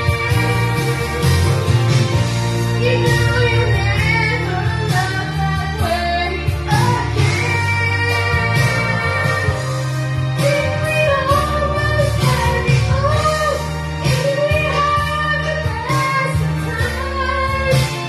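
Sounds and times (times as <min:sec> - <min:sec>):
accompanying music with low bass: 0:00.0 - 0:18.0
woman singing into a microphone: 0:00.0 - 0:18.0.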